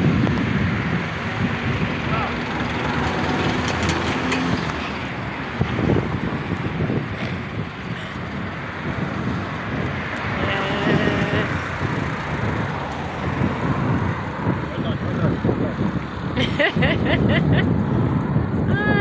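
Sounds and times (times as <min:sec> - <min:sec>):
vehicle passing: 0:00.0 - 0:18.6
wind buffeting microphone: 0:00.0 - 0:19.0.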